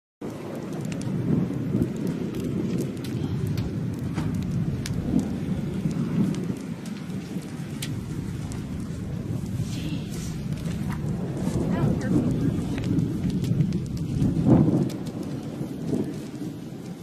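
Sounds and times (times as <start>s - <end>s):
raindrops ticking: 0.2s - 17.0s
wind rumbling on microphone: 0.2s - 17.0s.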